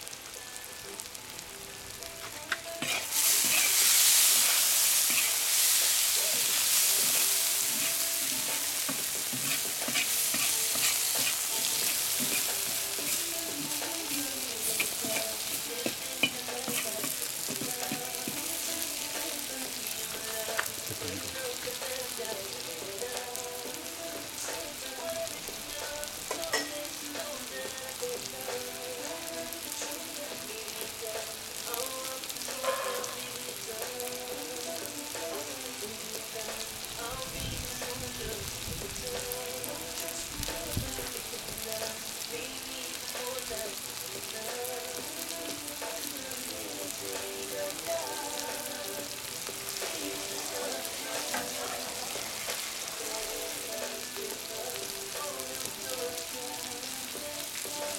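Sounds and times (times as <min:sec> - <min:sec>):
meat frying in hot oil: 0:00.0 - 0:57.9.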